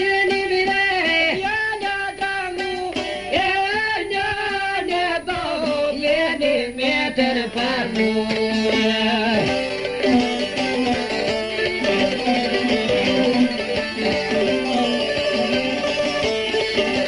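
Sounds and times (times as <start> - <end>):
man singing: 0.0 - 17.0
plucked lutes: 0.0 - 17.0.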